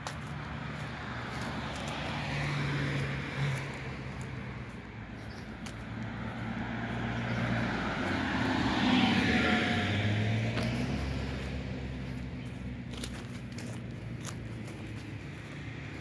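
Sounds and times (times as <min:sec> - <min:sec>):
vehicle passing by: 0:00.0 - 0:16.0.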